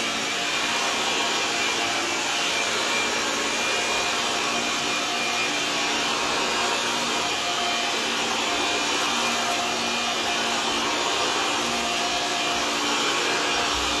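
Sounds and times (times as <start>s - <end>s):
vacuum cleaner running on carpet: 0.0s - 14.0s.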